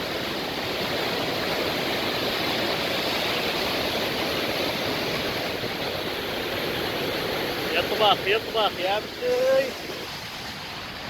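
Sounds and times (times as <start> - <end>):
large waterfall crashing: 0.0 - 11.0.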